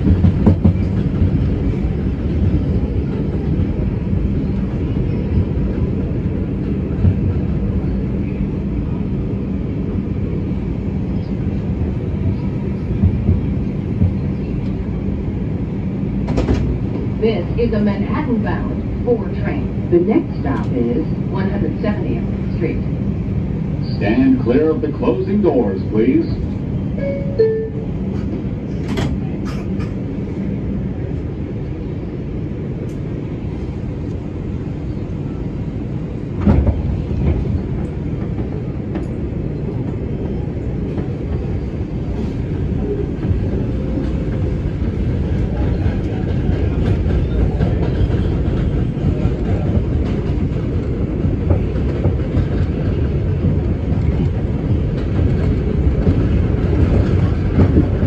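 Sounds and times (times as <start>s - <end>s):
subway train running on rails: 0.0s - 58.0s.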